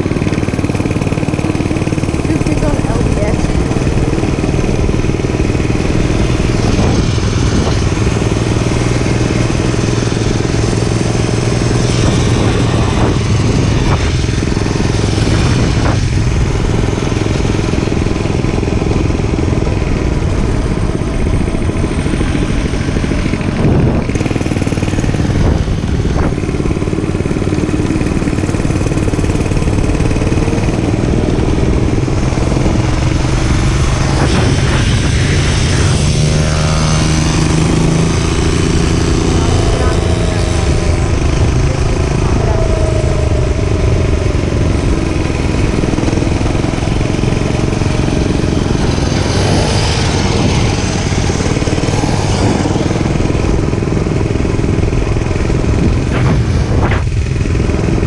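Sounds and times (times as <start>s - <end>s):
dense rushing noise: 0.0s - 58.0s
dirt bike engine running: 0.0s - 58.0s.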